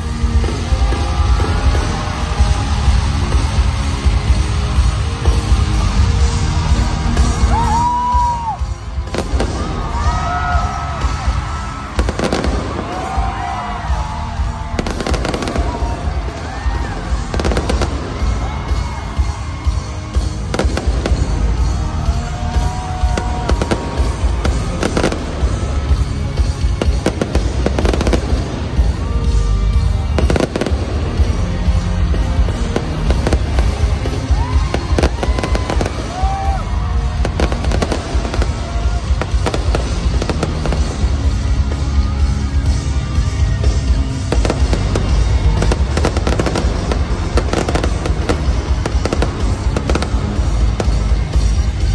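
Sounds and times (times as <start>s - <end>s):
fireworks bangs: 0.0s - 51.9s
loud concert music with bass: 0.0s - 51.9s.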